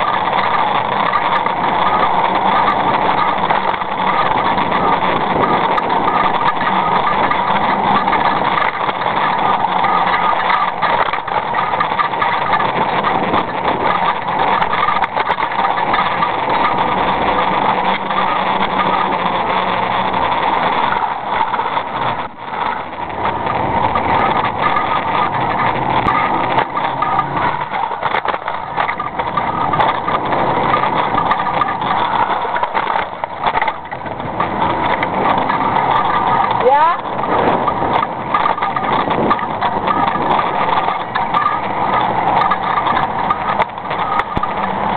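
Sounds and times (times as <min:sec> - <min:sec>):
small wheels rolling on pavement: 0:00.0 - 0:44.9.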